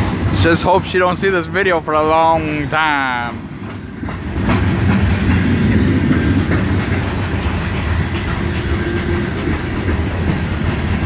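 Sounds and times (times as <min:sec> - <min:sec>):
freight train rumbling past: 0:00.0 - 0:11.0
wheels clacking over rail joints: 0:00.0 - 0:11.0.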